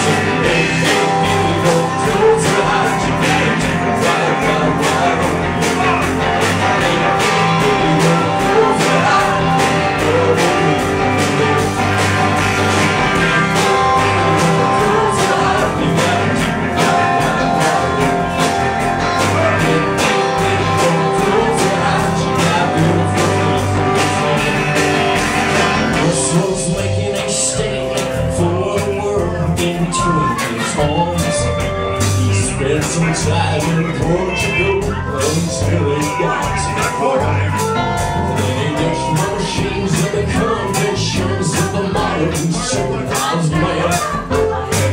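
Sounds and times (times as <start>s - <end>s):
bass guitar: 0.0s - 44.9s
electric guitars: 0.0s - 44.9s
steady drum beat: 0.0s - 44.9s.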